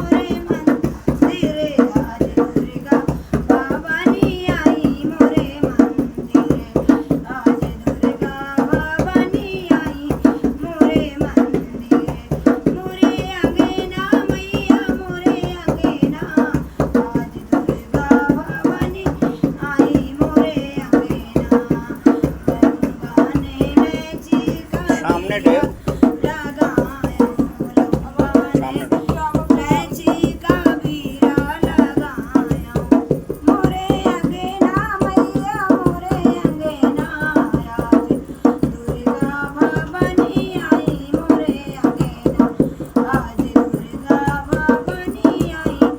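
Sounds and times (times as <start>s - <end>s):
drum and percussion beat: 0.0s - 45.9s
woman singing devotional song: 0.0s - 45.9s.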